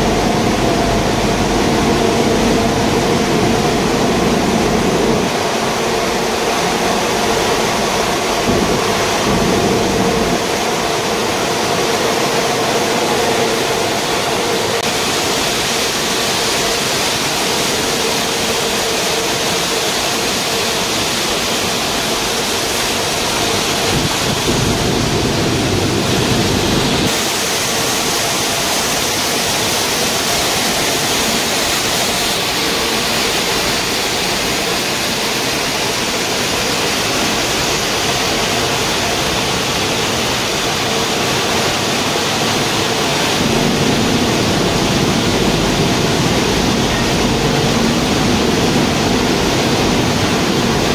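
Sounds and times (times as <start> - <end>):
grinding mills and conveyors: 0.0 - 50.9.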